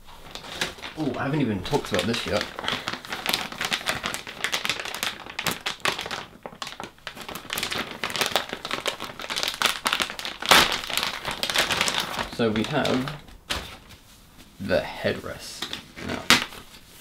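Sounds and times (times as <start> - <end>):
foam pillow rustling and crinkling: 0.0 - 17.0.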